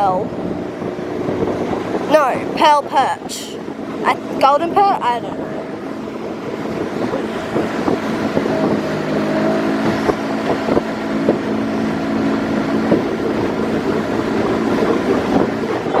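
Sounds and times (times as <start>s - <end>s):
outboard motor running: 0.0s - 16.0s
wind buffeting microphone: 0.0s - 16.0s.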